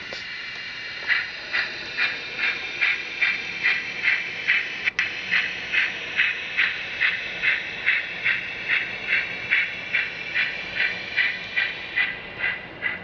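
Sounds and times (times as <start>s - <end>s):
steam exhaust chuffs from speaker: 0.0s - 13.0s.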